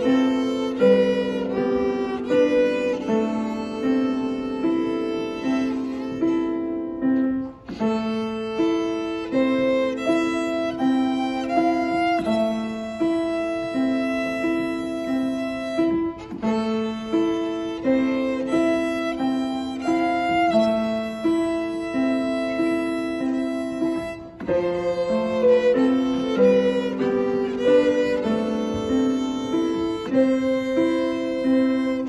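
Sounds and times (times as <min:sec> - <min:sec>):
grand piano melody: 0:00.0 - 0:32.0.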